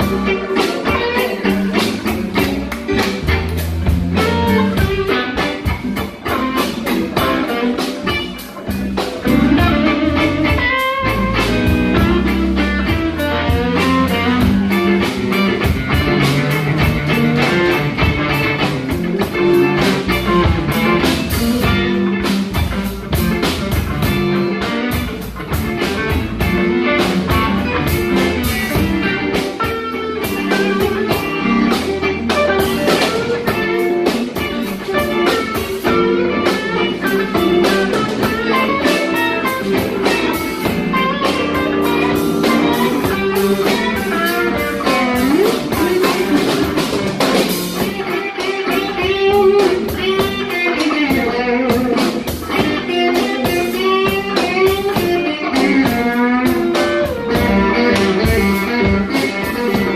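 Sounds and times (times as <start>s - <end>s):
electric guitar bending notes: 0.0s - 59.9s
live blues band playing: 0.0s - 59.9s.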